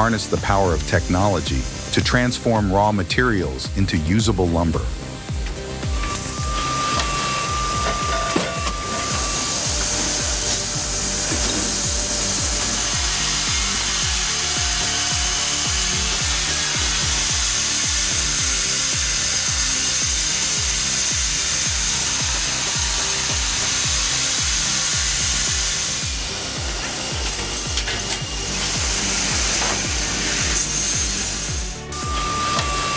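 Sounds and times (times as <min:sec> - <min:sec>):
saw cutting through wood: 0:00.0 - 0:32.9.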